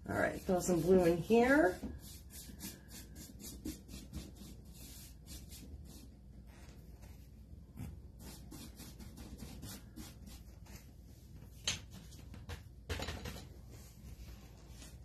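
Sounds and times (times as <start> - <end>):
rubbing and scraping handling noises: 0.1 - 15.0.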